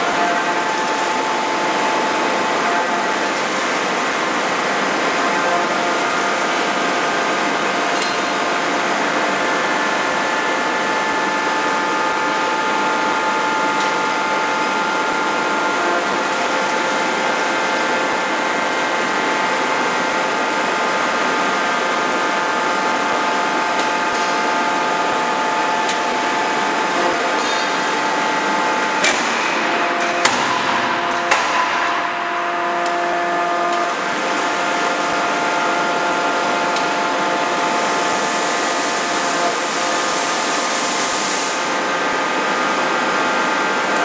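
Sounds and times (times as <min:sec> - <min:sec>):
machinery hum and whine: 0:00.0 - 0:44.0.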